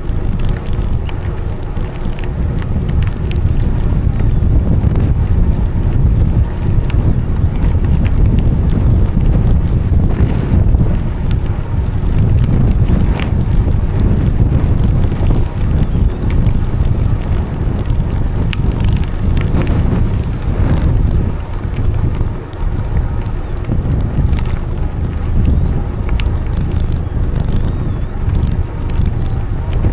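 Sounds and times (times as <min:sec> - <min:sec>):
bicycle tyre noise: 0:00.0 - 0:29.9
bike clicks and rattles: 0:00.0 - 0:29.9
wind buffeting microphone: 0:00.0 - 0:29.9.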